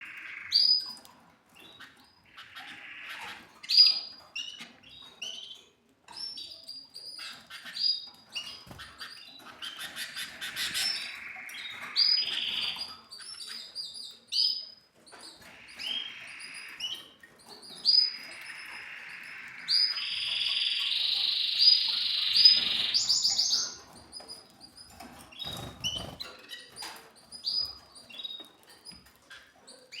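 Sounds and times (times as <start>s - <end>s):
canaries chirping and singing: 0.0s - 30.0s.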